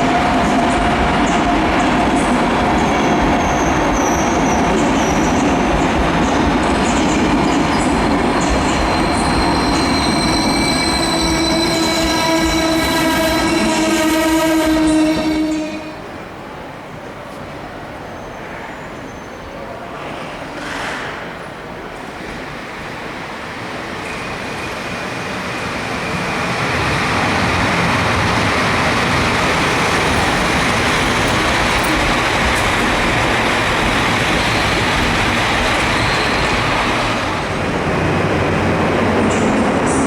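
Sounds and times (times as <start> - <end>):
train passing: 0.0 - 40.0.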